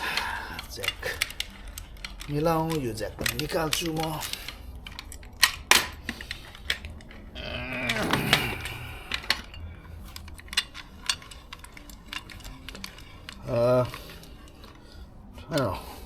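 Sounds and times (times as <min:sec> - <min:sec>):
metal car jack clinking: 0:00.0 - 0:16.0.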